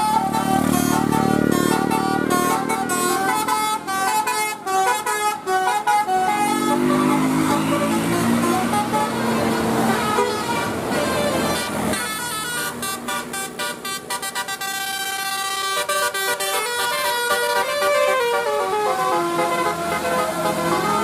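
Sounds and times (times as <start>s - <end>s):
musical bus horn: 0.0s - 21.0s.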